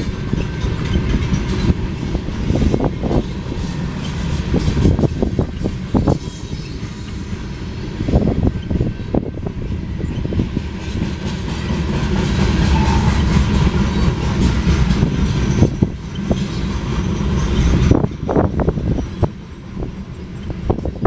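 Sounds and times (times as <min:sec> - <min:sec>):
freight train rumbling past: 0:00.0 - 0:21.0
wheels clattering over rail joints: 0:00.0 - 0:21.0.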